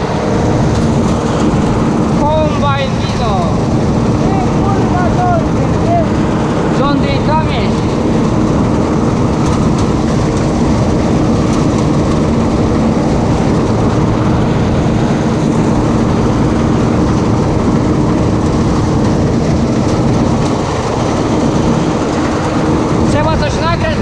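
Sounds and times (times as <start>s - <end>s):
combine harvester engine drone: 0.0s - 24.0s.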